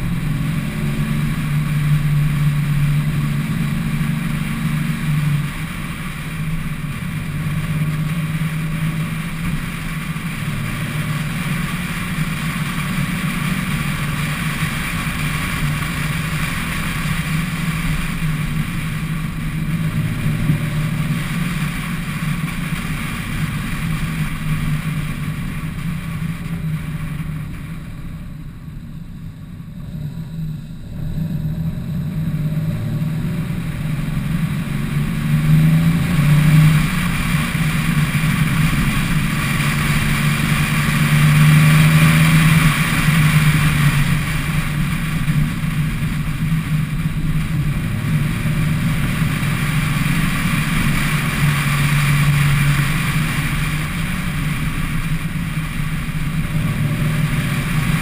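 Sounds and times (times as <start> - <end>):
car engine hum: 0.0 - 58.0
wind and road noise: 0.0 - 58.0.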